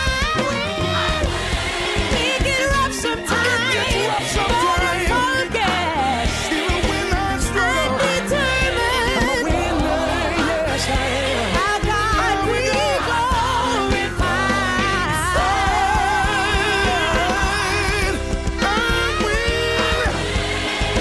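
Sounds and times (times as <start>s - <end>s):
song with sung vocals: 0.0s - 21.0s.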